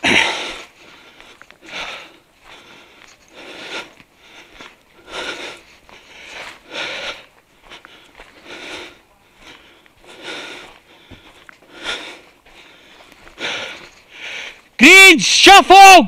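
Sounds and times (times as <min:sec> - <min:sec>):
person breathing heavily: 0:00.0 - 0:14.8.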